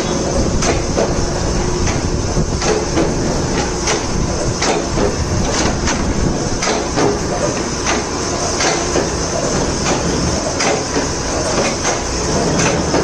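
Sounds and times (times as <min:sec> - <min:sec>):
machine running hum: 0:00.0 - 0:13.0.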